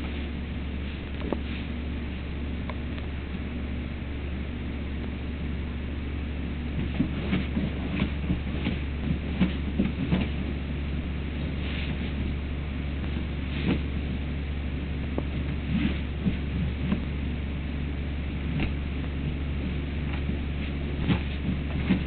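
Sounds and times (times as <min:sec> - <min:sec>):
puppy paws scratching rug: 0:00.0 - 0:03.6, 0:06.4 - 0:22.0
steady low hum: 0:00.0 - 0:22.0.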